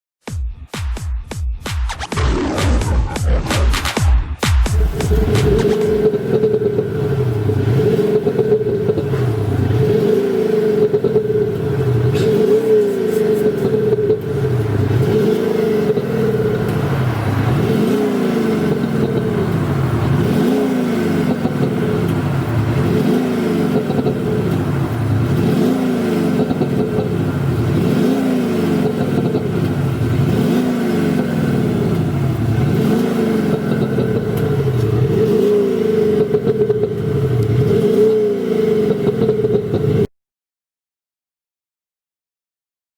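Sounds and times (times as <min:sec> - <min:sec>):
synthetic exhaust note revving: 0:02.1 - 0:40.0.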